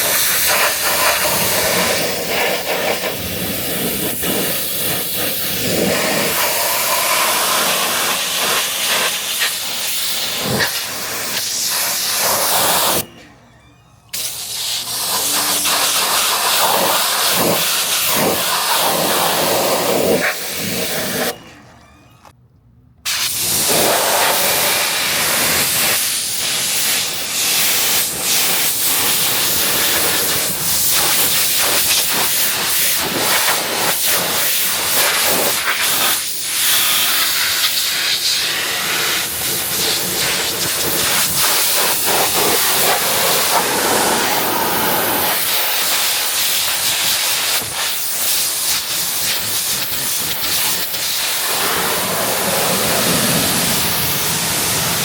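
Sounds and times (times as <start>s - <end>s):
pressure washer spraying: 0.0s - 13.0s, 14.2s - 21.3s, 23.1s - 55.0s.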